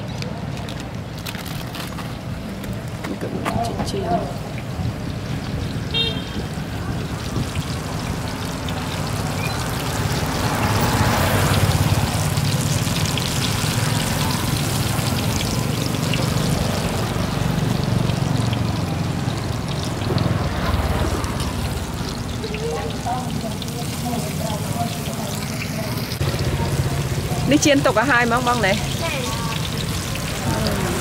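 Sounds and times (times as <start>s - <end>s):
food deep-frying in oil: 0.0s - 31.0s.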